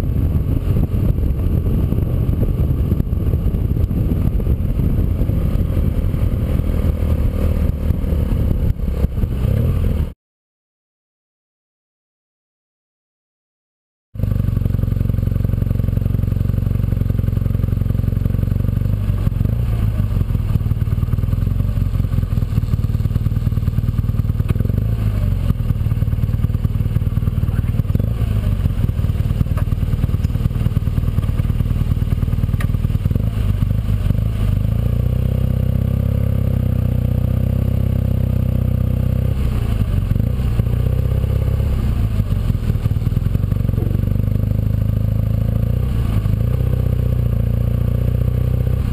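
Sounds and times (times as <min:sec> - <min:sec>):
motorcycle engine running: 0:00.0 - 0:10.2, 0:14.2 - 0:48.9.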